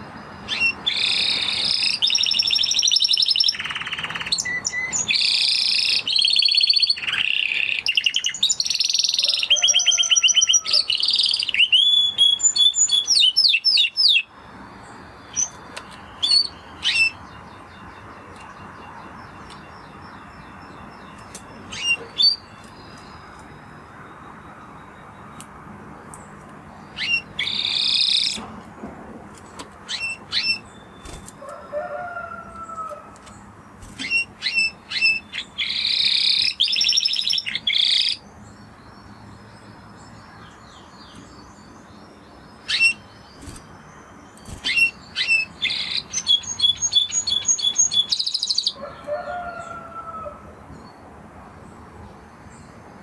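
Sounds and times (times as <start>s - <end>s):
canary singing chirps and trills: 0.0s - 28.6s, 29.2s - 53.0s.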